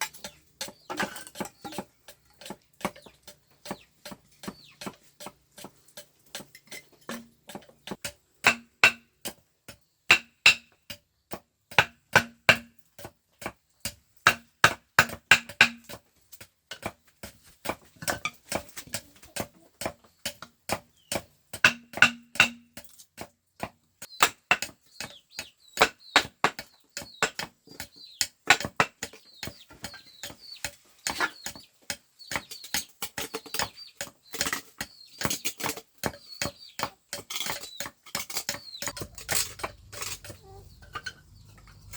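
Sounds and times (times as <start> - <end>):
tool knocking on bamboo: 0.2 - 6.5, 7.1 - 41.9.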